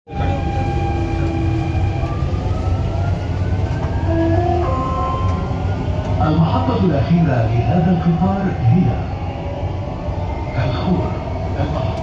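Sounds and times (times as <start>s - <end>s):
train low rumble: 0.1s - 12.0s.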